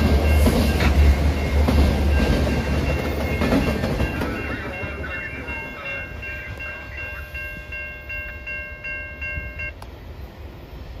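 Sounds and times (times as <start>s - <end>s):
railway crossing bell ringing: 0.0s - 10.0s
freight train rumbling: 0.0s - 11.0s.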